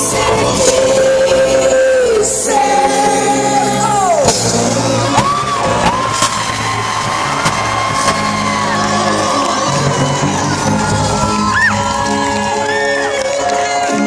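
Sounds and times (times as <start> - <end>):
band and orchestra playing: 0.0 - 14.0
singer holding long notes: 0.0 - 14.0.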